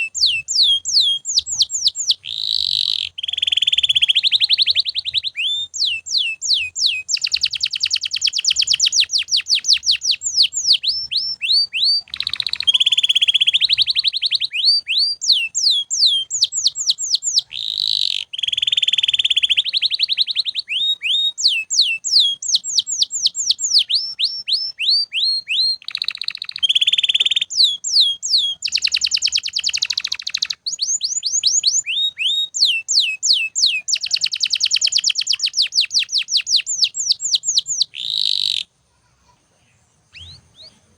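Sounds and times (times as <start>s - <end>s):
canary singing: 0.0s - 38.8s, 39.6s - 40.9s.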